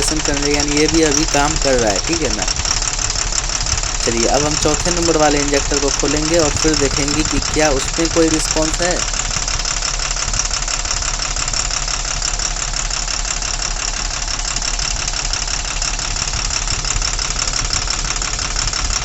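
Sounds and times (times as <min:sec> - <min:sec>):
diesel engine idling: 0:00.0 - 0:18.8.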